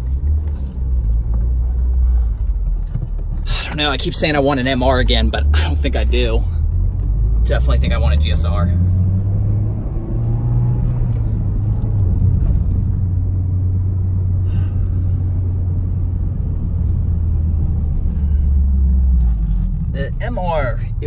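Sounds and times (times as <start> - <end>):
engine and road rumble in car: 0.0 - 21.0.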